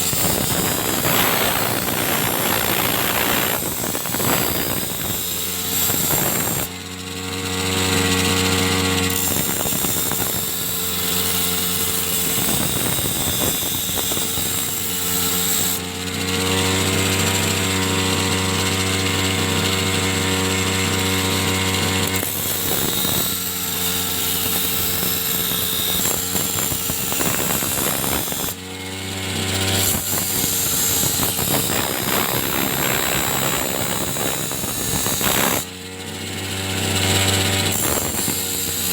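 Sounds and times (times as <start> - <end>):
power tool grinding blade: 0.0 - 38.9.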